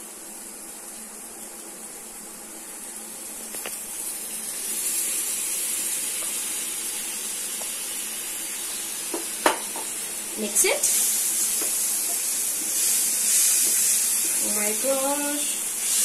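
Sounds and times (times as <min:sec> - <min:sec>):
water sizzling in hot pan: 0:00.0 - 0:16.0.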